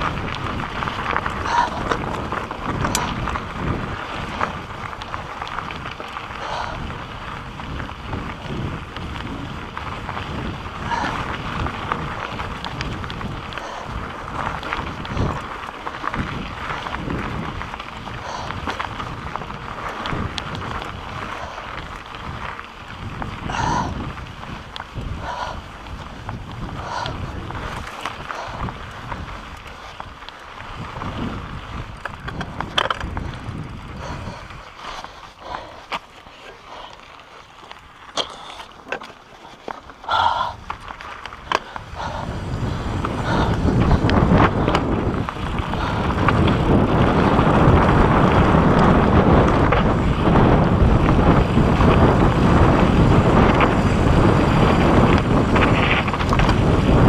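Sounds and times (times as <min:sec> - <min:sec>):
bike rattling with small clicks: 0:00.0 - 0:57.0
tyres rolling over dirt and rock: 0:00.0 - 0:57.0
wind buffeting microphone: 0:00.0 - 0:57.0.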